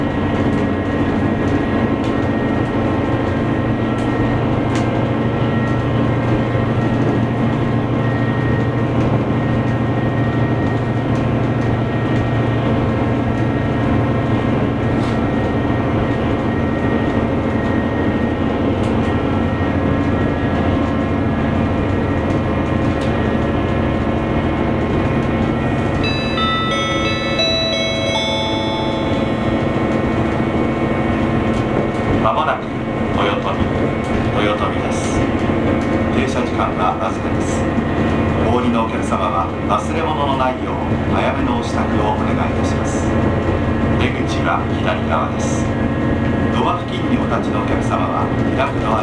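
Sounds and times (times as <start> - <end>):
diesel train engine drone: 0.0 - 49.0
rail noise: 0.0 - 49.0.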